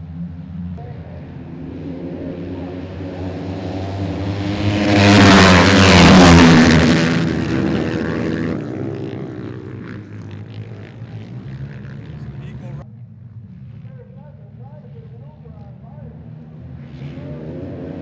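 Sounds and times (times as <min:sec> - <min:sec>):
motorcycles passing: 0:00.0 - 0:18.0.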